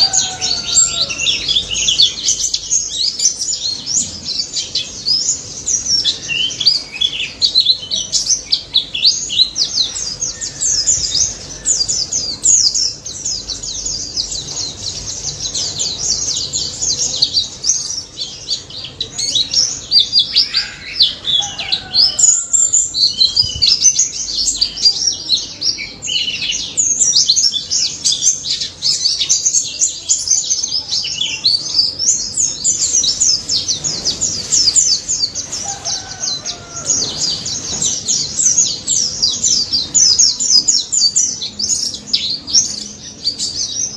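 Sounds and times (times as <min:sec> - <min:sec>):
bird chirping and trilling: 0:00.0 - 0:43.9.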